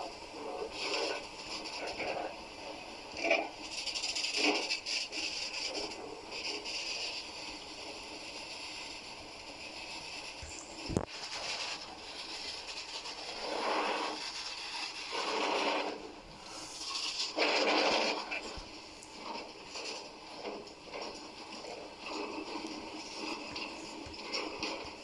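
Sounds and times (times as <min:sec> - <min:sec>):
freight train wheels on rail: 0:00.0 - 0:25.0
train scraping noise: 0:00.0 - 0:25.0.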